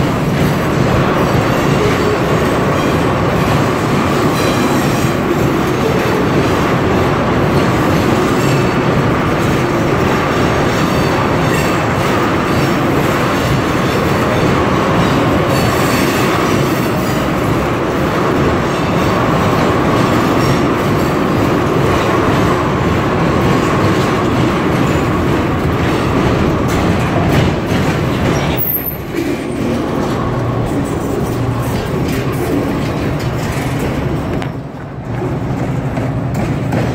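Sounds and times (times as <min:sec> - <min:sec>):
freight train rumbling past: 0:00.0 - 0:36.9
steel wheels clattering on rails: 0:00.0 - 0:36.9.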